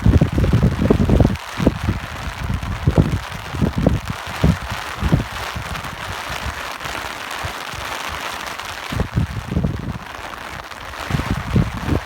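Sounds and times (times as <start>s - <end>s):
rain hiss: 0.0s - 12.0s
wind buffeting microphone: 0.0s - 12.0s.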